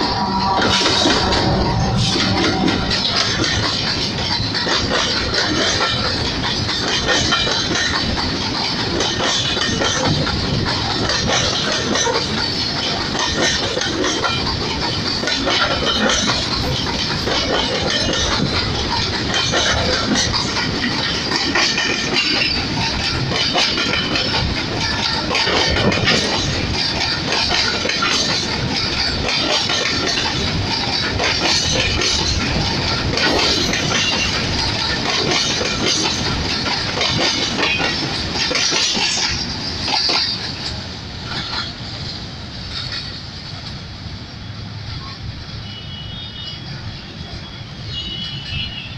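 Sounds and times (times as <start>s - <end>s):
freight train wheels clicking on rails: 0.0s - 48.9s.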